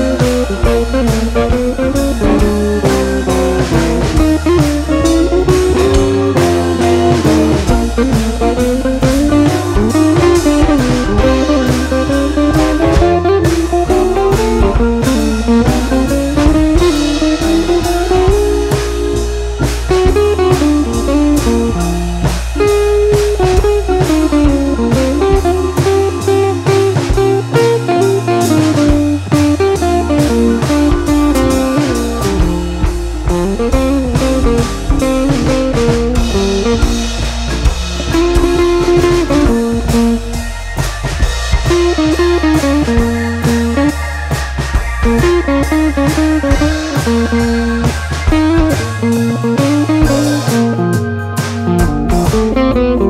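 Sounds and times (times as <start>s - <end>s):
blues guitar melody: 0.0s - 53.0s
drum kit steady beat: 0.0s - 53.0s.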